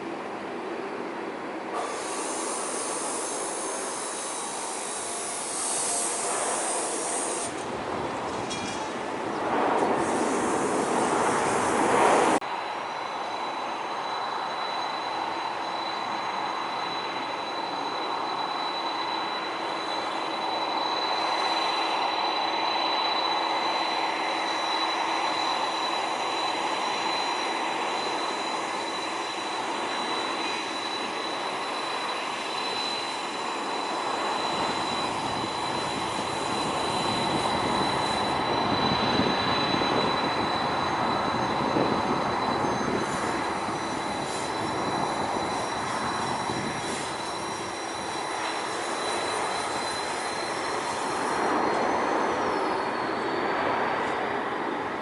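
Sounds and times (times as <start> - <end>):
jet engine whine: 0.0 - 55.0
jet engines rushing: 1.7 - 55.0
gliding whine: 2.6 - 55.0.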